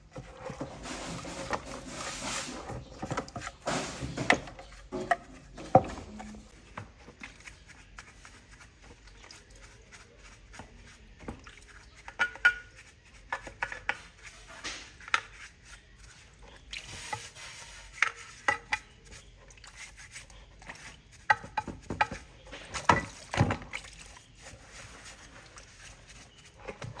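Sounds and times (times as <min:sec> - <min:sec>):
brush scrubbing metal: 0:00.0 - 0:27.0.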